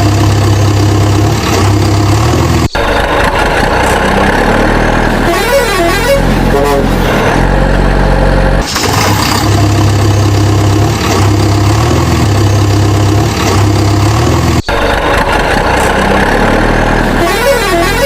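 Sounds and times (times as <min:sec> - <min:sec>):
heavy engine running: 0:00.0 - 0:18.0.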